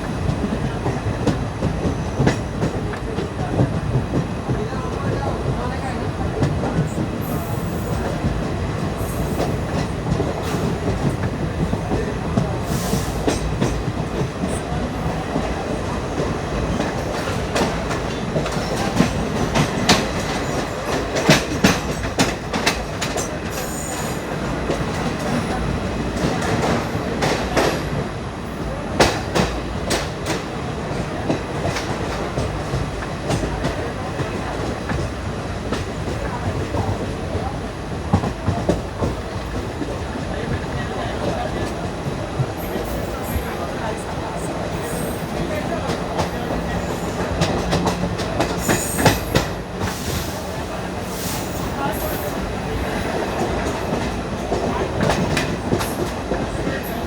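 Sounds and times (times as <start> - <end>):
rumble of wheels on track: 0.0 - 57.0.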